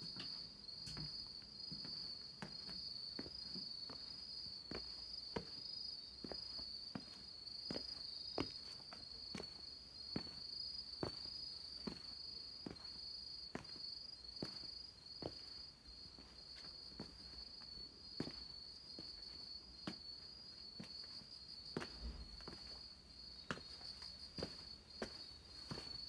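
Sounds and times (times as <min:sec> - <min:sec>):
footsteps walking: 0:00.0 - 0:09.6, 0:10.2 - 0:26.0
insects chirping: 0:00.0 - 0:26.0.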